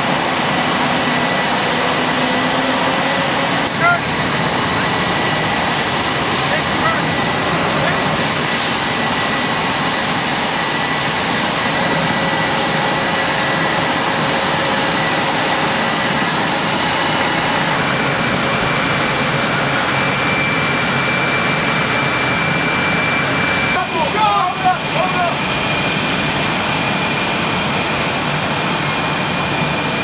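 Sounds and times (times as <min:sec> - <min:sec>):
jet engine roar with whining: 0:00.0 - 0:30.0.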